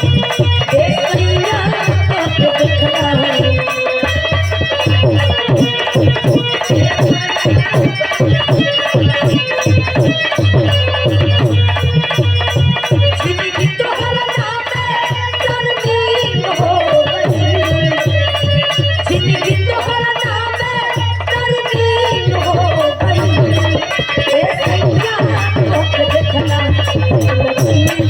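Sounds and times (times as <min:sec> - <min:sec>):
steady drum beat: 0:00.0 - 0:28.0.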